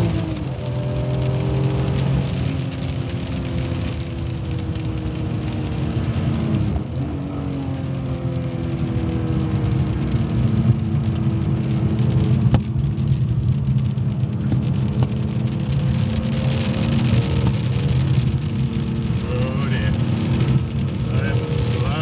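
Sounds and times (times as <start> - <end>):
car engine running: 0.0 - 22.0
road and tyre noise: 0.0 - 22.0.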